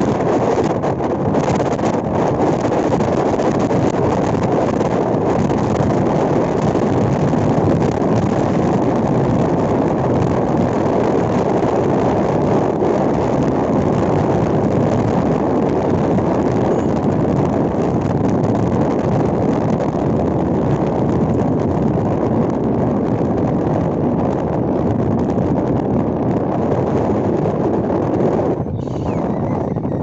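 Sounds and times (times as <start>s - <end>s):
tyre and road noise: 0.0s - 30.0s
wind on microphone: 0.0s - 30.0s.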